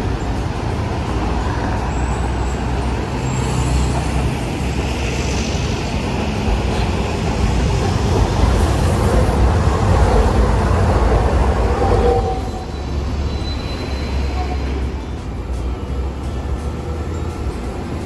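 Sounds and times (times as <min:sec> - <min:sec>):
road traffic: 0:00.0 - 0:18.0
streetcar rumbling on rails: 0:00.0 - 0:18.0.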